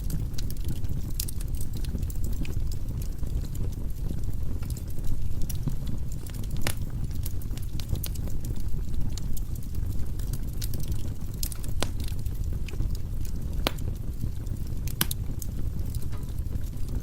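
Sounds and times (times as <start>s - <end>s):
fire roaring in fireplace: 0.0s - 17.0s
logs crackling and popping: 0.0s - 17.0s.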